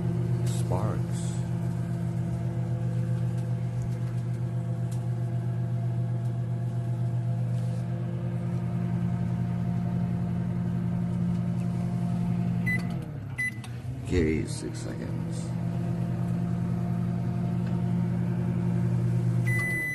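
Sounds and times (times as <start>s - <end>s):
microwave oven humming: 0.0s - 19.9s.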